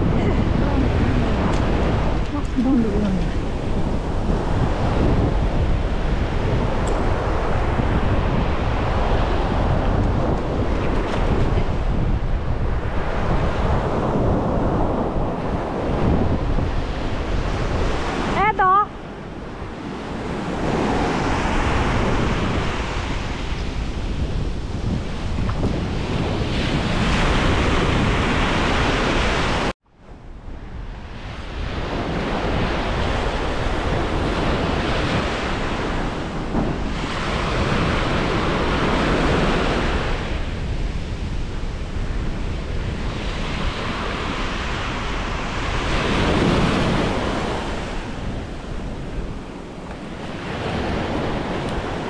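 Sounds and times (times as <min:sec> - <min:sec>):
ocean surf breaking: 0:00.0 - 0:29.8, 0:30.5 - 0:52.0
wind buffeting microphone: 0:00.0 - 0:52.0.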